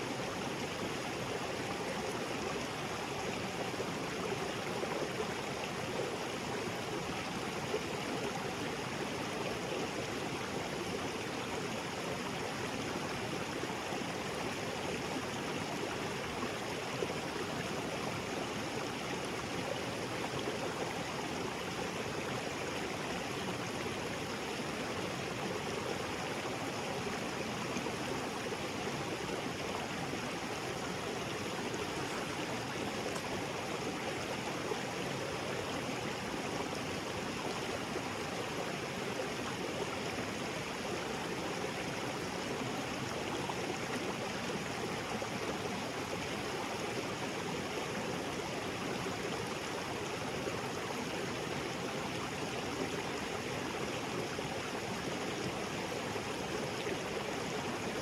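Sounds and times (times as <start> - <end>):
small waterfall splashing: 0.0 - 58.0.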